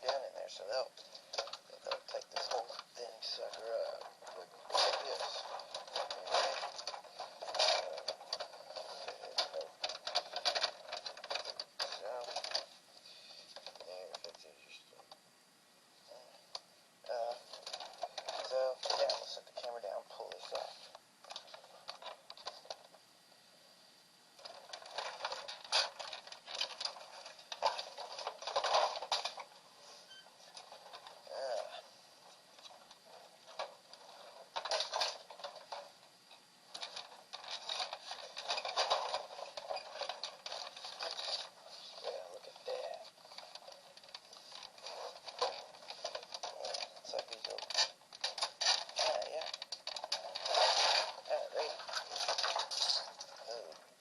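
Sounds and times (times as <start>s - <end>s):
plastic parts clicking and rattling: 0.0s - 12.8s, 13.5s - 15.2s, 16.5s - 23.0s, 24.4s - 54.0s.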